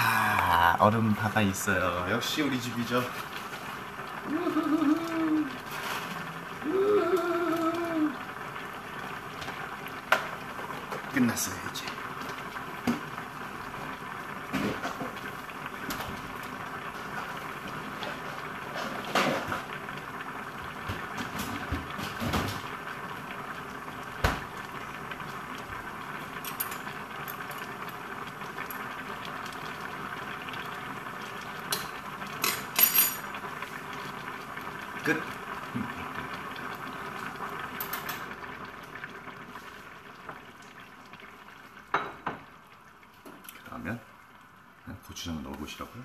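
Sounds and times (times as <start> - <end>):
soup simmering in a pot: 0.0 - 46.0.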